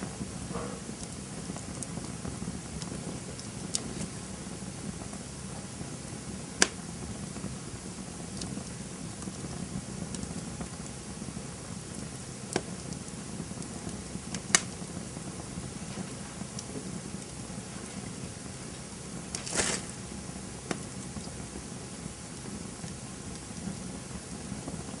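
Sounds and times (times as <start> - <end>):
campfire rumbling and crackling: 0.0 - 25.0
sharp pops of burning wood: 0.1 - 25.0.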